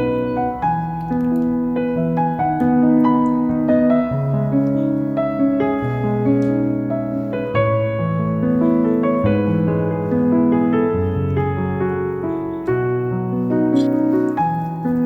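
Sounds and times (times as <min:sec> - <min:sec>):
calm slow piano music: 0:00.0 - 0:15.0.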